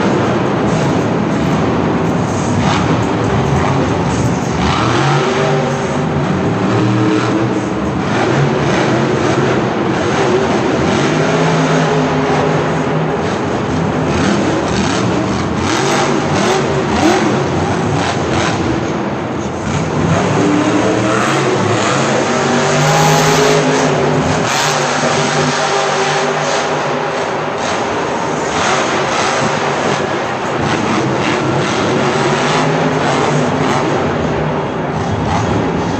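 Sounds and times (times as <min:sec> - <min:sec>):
monster truck engine revving: 0:00.0 - 0:35.9.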